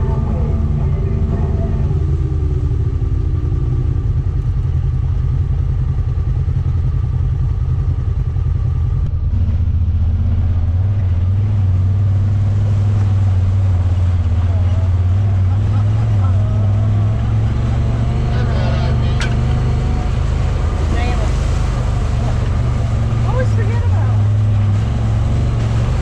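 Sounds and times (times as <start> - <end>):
utility vehicle engine running: 0.0 - 26.0.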